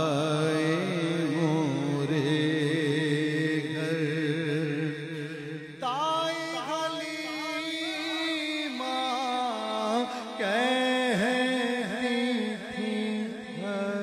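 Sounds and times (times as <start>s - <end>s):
man singing melismatic phrases: 0.0s - 14.0s.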